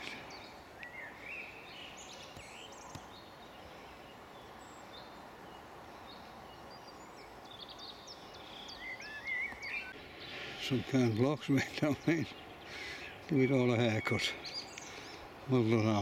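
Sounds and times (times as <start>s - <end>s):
songbirds singing: 0.0s - 16.0s
steady background hiss: 0.0s - 16.0s.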